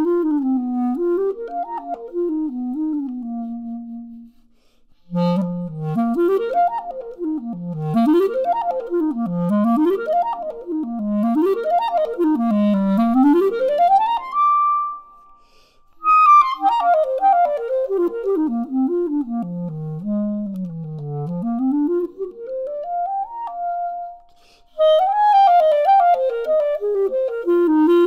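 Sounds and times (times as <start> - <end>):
solo clarinet playing runs: 0.0 - 15.1, 16.0 - 28.0.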